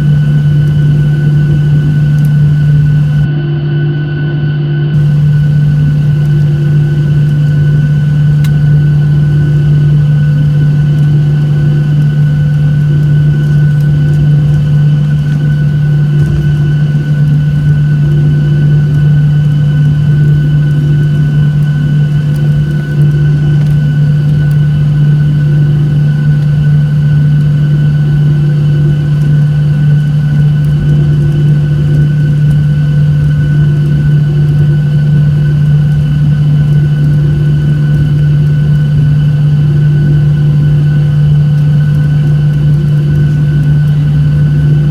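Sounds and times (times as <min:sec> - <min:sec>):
jet engines humming in cabin: 0:00.0 - 0:44.9
thin steady whine: 0:00.0 - 0:44.9.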